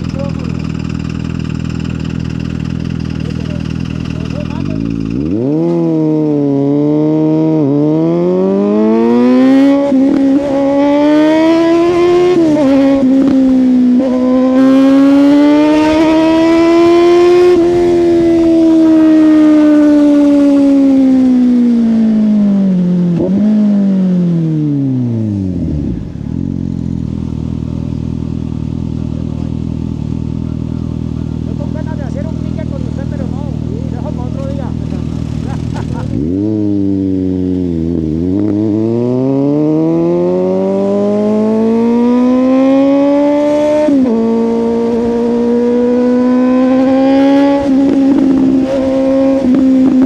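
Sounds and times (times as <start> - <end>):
motorcycle engine revving and idling: 0.0 - 50.0.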